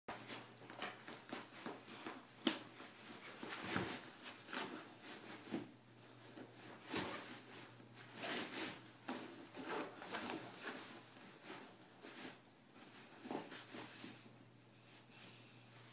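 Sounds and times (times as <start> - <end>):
cloth rustling and scraping: 0.1 - 15.9.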